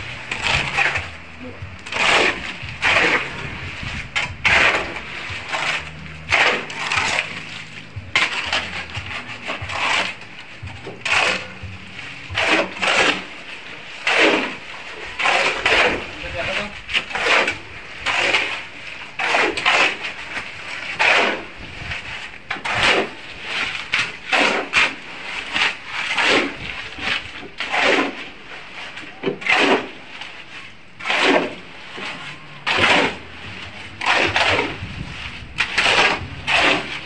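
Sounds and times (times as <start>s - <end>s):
shovel scraping through gravel: 0.0s - 37.0s.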